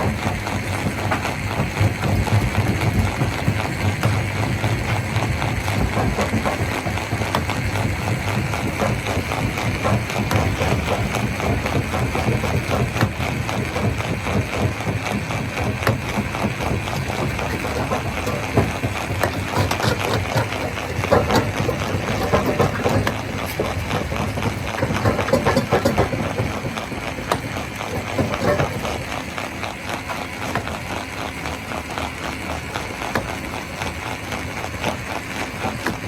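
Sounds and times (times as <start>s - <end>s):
rock crusher rumbling: 0.0s - 36.0s.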